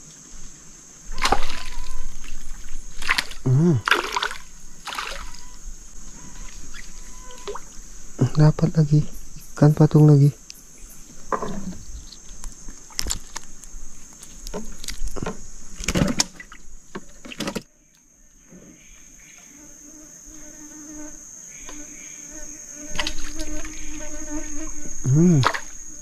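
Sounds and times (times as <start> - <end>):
high-pitched insect drone: 0.0 - 15.8, 18.8 - 26.0
wavering insect buzz: 0.0 - 17.4, 18.2 - 26.0.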